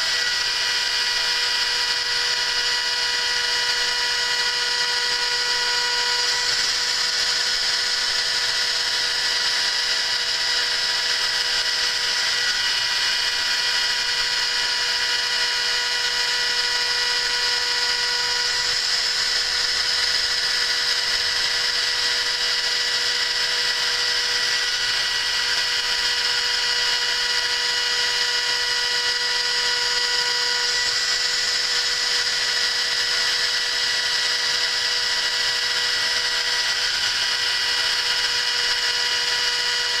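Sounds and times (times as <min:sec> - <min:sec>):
milling machine whining: 0:00.0 - 0:40.0.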